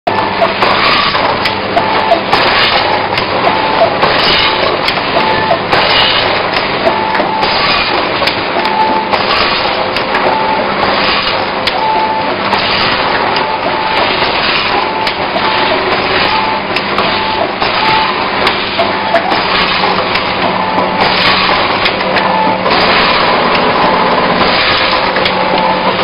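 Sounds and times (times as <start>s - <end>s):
low machine hum: 0.1s - 26.0s
packing machine clatter: 0.1s - 26.0s.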